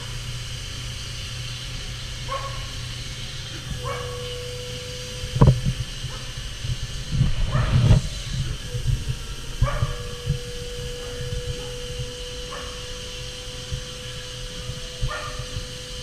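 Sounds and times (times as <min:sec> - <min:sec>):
lathe hiss and low hum: 0:00.0 - 0:16.0.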